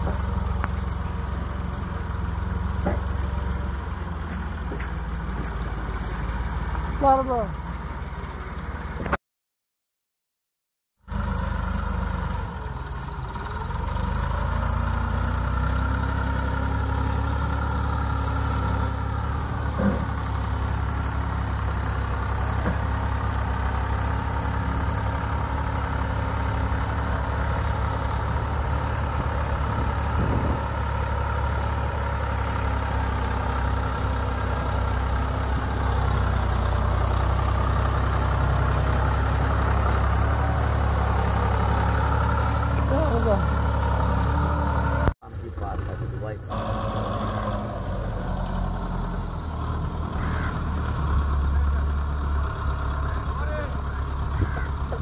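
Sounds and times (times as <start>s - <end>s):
tractor diesel engines running: 0.0s - 9.2s, 11.0s - 55.0s.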